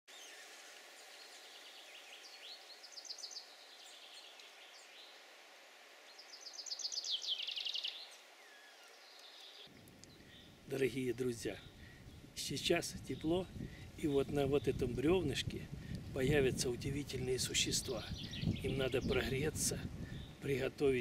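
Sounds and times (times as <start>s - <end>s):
songbirds singing: 0.1s - 5.4s, 6.0s - 21.0s
faint outdoor hiss: 0.1s - 21.0s.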